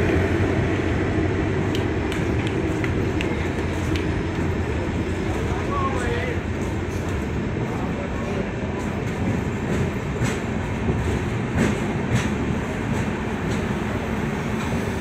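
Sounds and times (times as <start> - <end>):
train wheel and rail rumble: 0.0 - 15.0
wheels clacking over rail joints: 1.6 - 14.8.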